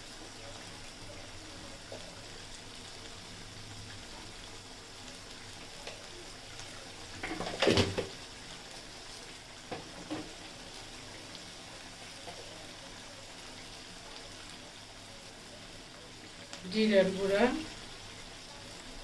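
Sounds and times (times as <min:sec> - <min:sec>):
spices frying in oil: 0:00.0 - 0:19.0.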